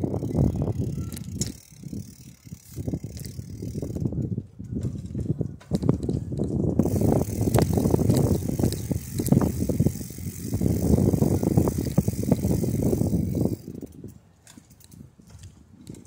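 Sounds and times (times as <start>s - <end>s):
bicycle rolling on pavement: 0.0s - 16.0s
small rattling clicks: 0.2s - 4.0s, 5.8s - 16.0s.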